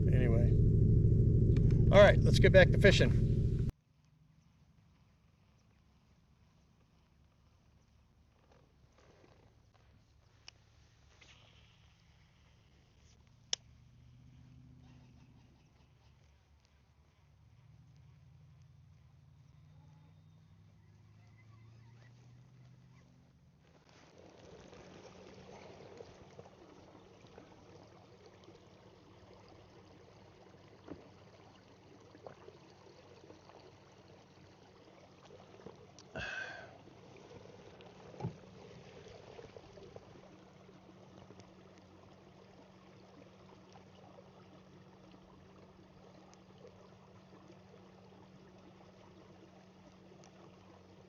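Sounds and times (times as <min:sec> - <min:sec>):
water lapping and trickling: 0:04.0 - 0:51.0.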